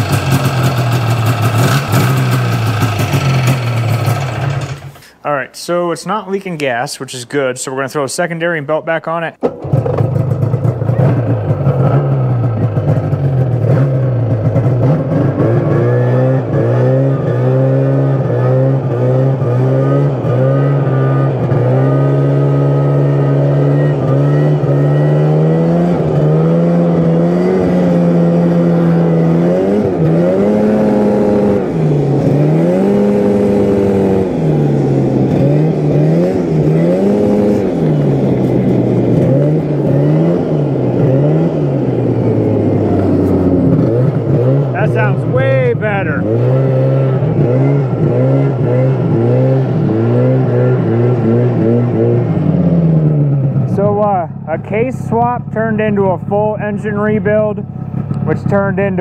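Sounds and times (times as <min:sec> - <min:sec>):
snowmobile engine running: 0:00.0 - 0:05.1, 0:09.6 - 0:59.0.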